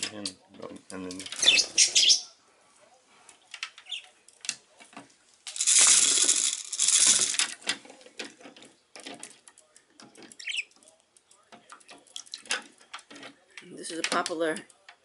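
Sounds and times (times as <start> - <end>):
light clicks from toys and claws: 0.0 - 1.4, 3.3 - 15.0.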